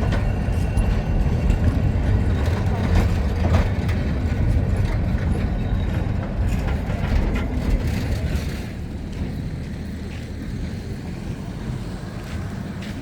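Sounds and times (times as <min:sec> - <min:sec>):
train rumbling on tracks: 0:00.0 - 0:13.0.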